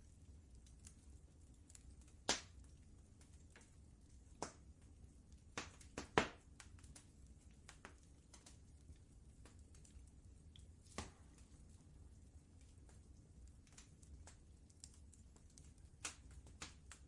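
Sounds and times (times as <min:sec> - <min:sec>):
faint low rumble: 0:00.0 - 0:17.0
wood fire crackling and popping: 0:00.0 - 0:17.0.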